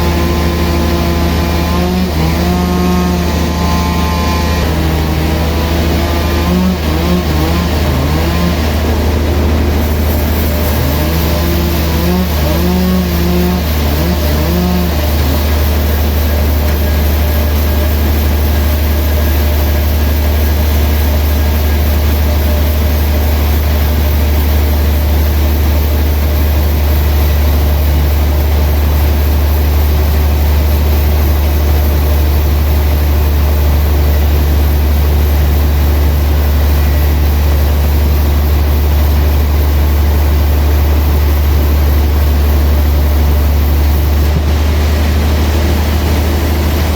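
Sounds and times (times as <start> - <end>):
heavy machinery low drone: 0.0 - 46.9.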